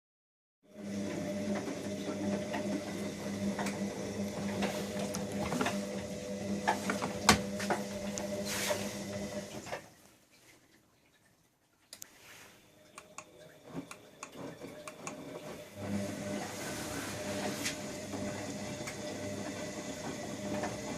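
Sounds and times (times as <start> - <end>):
washing machine drum motor hum: 0.7 - 9.9, 12.8 - 20.9.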